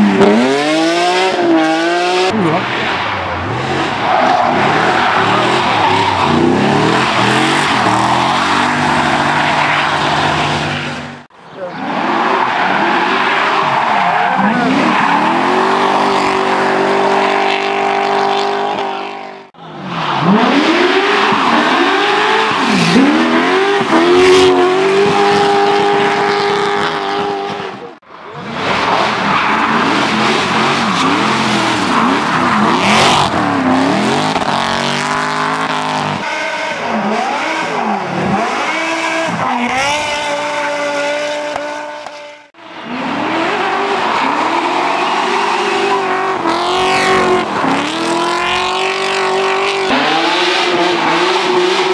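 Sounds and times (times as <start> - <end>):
car engines revving: 0.0 - 51.9
tyres skidding and squealing: 0.0 - 51.9.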